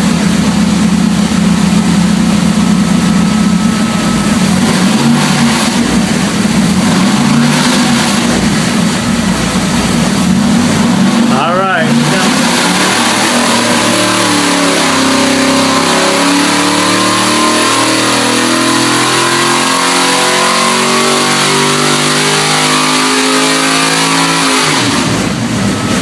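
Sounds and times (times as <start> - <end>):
engine running at high rpm: 0.0 - 26.0.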